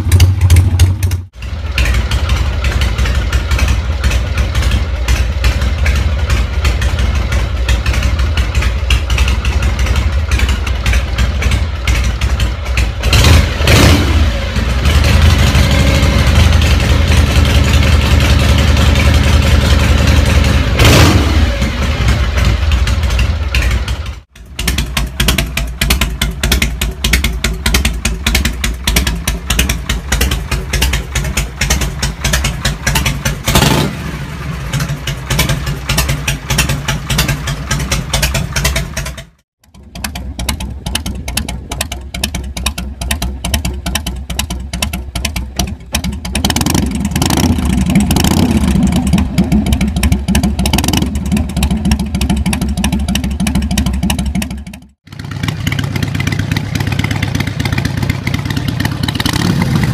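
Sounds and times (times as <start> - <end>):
motorcycle engine idling: 0.0 - 59.9
motorcycle engine revving: 0.0 - 59.9.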